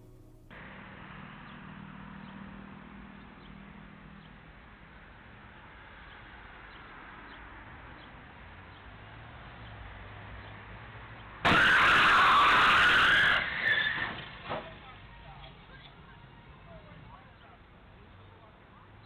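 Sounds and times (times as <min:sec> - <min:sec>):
vehicle rumble: 0:00.0 - 0:19.0.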